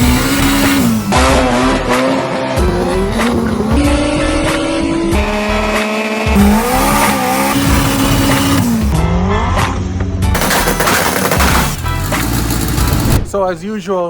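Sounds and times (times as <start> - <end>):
car engines revving: 0.0 - 13.2
music: 0.0 - 14.0.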